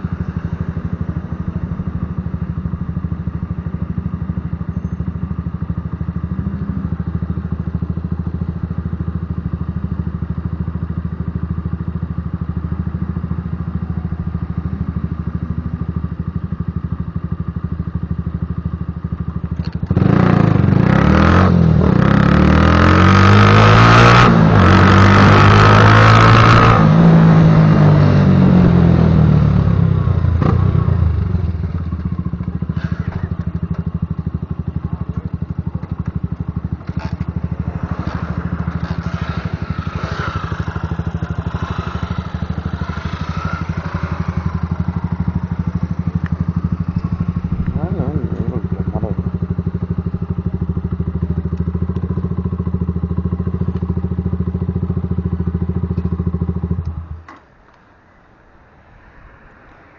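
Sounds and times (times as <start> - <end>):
motorcycle engine revving: 0.0 - 57.4.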